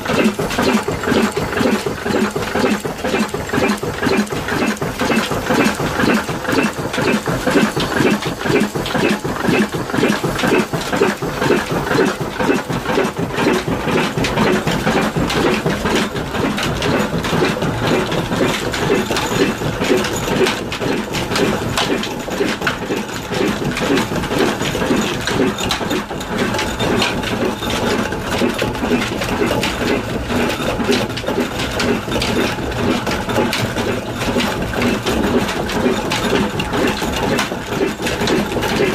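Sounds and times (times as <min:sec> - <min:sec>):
diesel engine running: 0:00.0 - 0:38.9
machinery clattering: 0:00.0 - 0:38.9.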